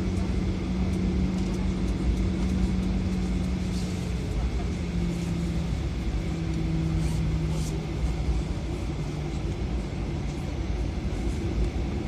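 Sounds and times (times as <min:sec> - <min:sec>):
aircraft cabin rumble: 0:00.0 - 0:12.0
engine hum: 0:00.0 - 0:12.0.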